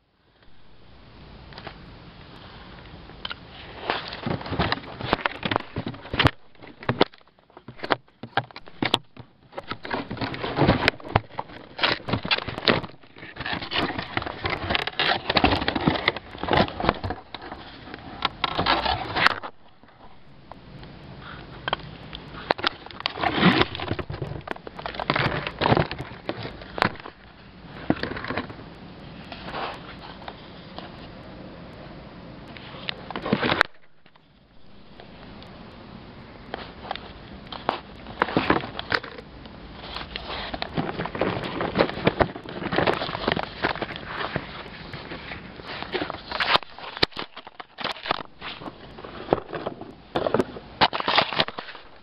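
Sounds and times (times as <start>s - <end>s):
cardboard and plastic rustling: 3.3s - 20.3s, 21.2s - 31.1s, 32.6s - 35.2s, 36.4s - 52.0s.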